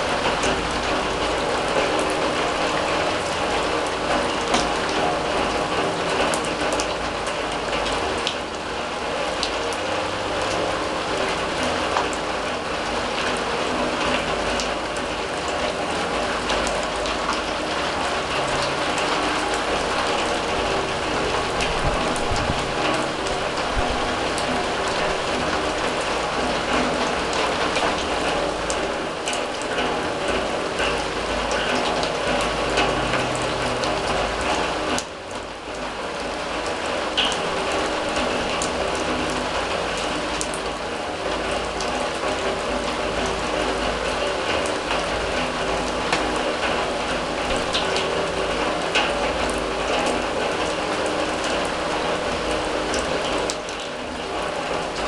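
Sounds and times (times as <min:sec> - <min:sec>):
rain ticking on metal drum: 0:00.0 - 0:55.0.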